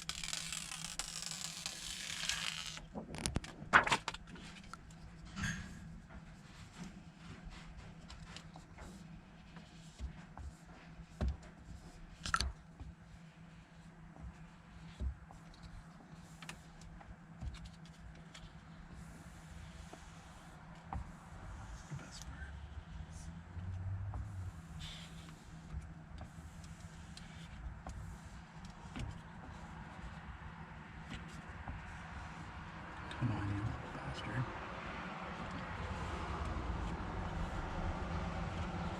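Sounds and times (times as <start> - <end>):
steady low hum: 3.7 - 38.9.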